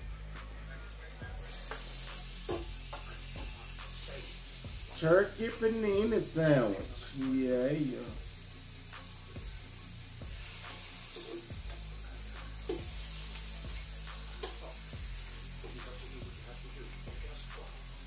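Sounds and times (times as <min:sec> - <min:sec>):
meat sizzling on griddle: 0:00.1 - 0:18.0.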